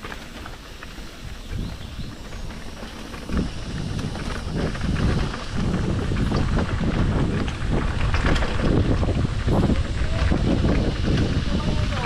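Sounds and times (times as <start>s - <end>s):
bike rattling over rocks: 0.0s - 12.0s
tyres rumbling over ground: 0.0s - 12.0s
wind buffeting microphone: 0.0s - 12.0s.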